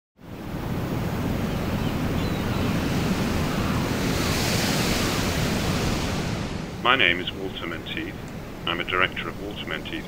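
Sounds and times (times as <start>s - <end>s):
surf: 0.2s - 10.0s
wind: 0.2s - 10.0s.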